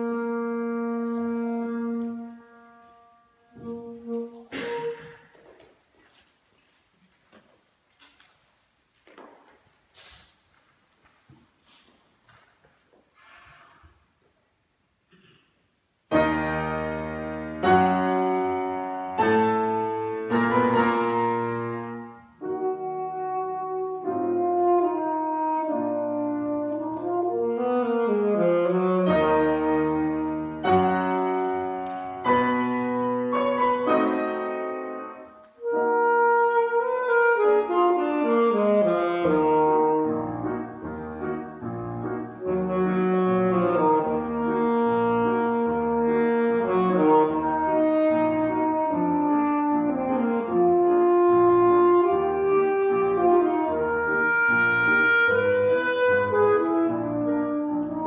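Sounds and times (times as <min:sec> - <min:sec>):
piano accompaniment: 0:00.0 - 0:05.4, 0:16.1 - 0:58.0
saxophone duet: 0:00.0 - 0:05.7, 0:16.2 - 0:58.0.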